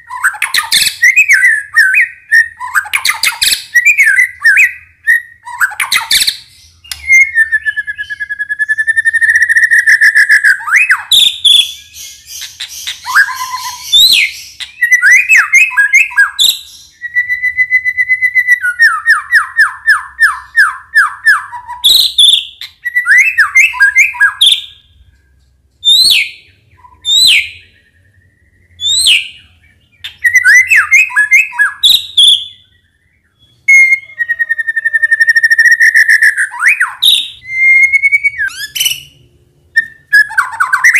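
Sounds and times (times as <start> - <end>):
songbird singing with trills: 0.0 - 39.2, 39.8 - 40.9.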